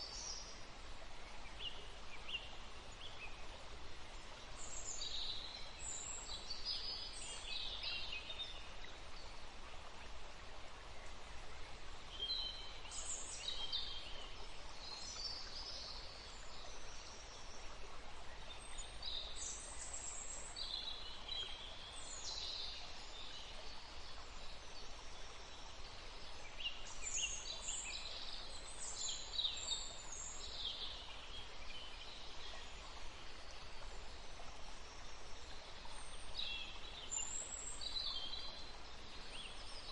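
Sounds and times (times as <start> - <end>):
songbirds chirping: 0.0 - 39.9
stream flowing: 0.0 - 39.9.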